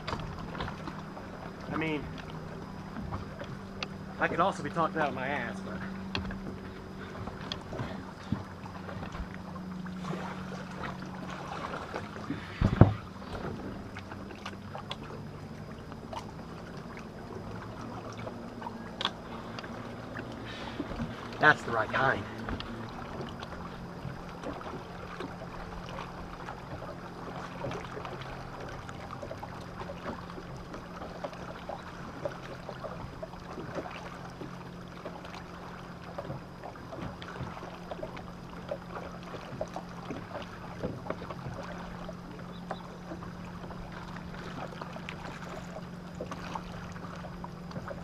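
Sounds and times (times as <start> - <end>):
water slapping a hull: 0.0 - 48.0.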